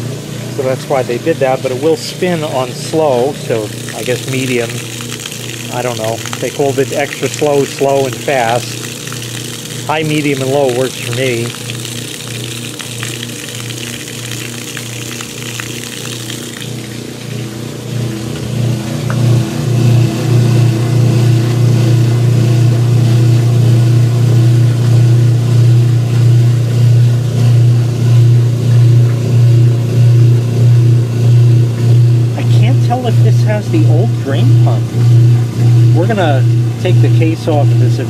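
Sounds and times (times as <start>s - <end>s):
washing machine pump humming: 0.0s - 38.0s
water splashing from drain hose: 0.6s - 38.0s.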